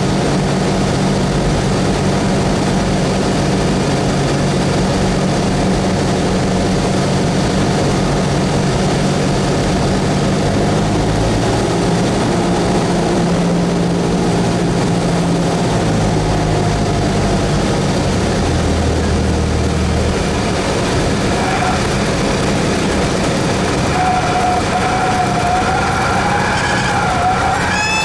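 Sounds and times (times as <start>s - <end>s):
small plane engine and propeller: 0.0s - 28.0s.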